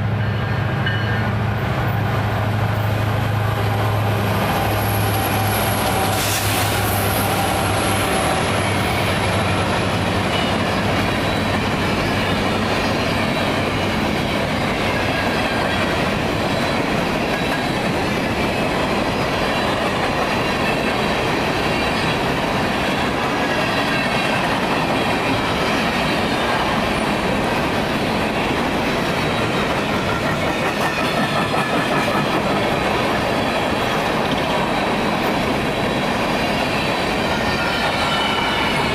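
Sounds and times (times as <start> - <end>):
train wheels clattering on rails: 4.4 - 38.9.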